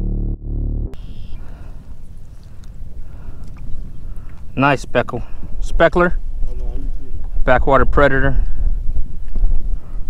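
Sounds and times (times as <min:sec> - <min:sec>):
wind rumbling on microphone: 0:01.0 - 0:10.0.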